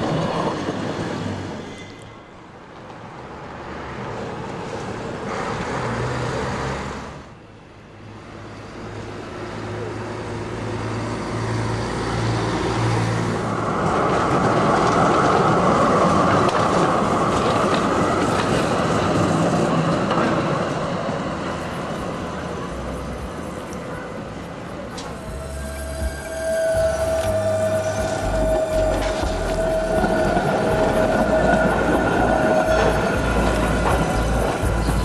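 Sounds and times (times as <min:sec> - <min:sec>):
tram wheels rumbling on rail: 0:00.0 - 0:35.0
bus engine hum: 0:02.4 - 0:35.0.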